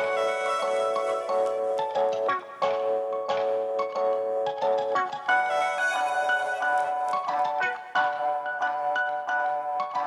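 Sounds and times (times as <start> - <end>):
melodic tune of ringing notes: 0.0 - 10.0.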